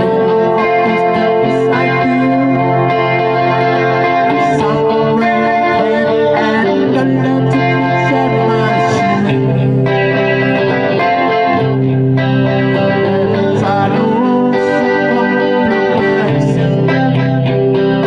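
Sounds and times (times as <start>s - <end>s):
guitar background music: 0.0s - 18.0s.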